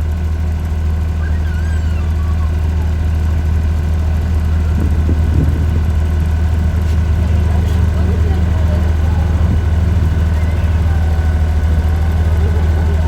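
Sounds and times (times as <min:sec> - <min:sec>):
aircraft piston engines droning: 0:00.0 - 0:13.0.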